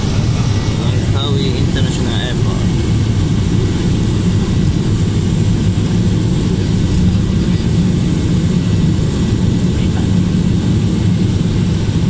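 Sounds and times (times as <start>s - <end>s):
deep low hum: 0.0s - 12.0s
turboprop engine and propeller drone: 0.0s - 12.0s.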